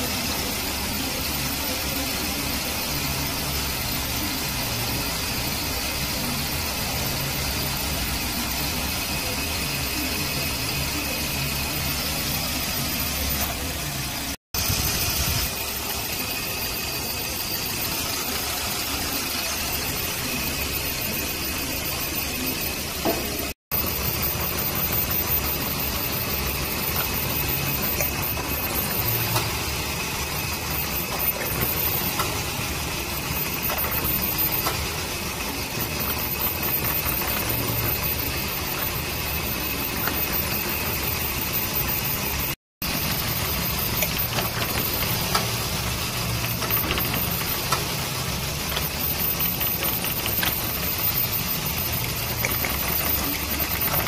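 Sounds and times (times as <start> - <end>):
engine idling roughly with misfire: 0.0 - 54.0
high-pitched whine: 0.0 - 54.0.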